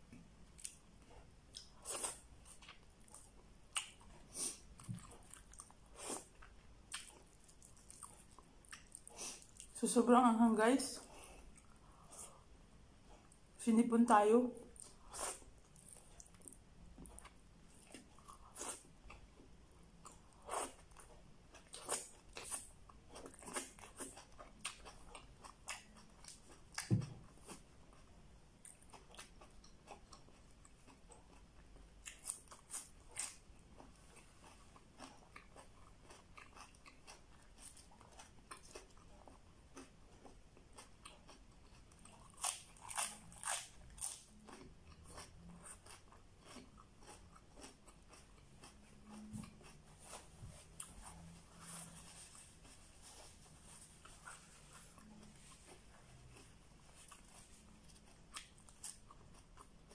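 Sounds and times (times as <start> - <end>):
person chewing and crunching food: 0.0 - 9.8, 14.6 - 59.9.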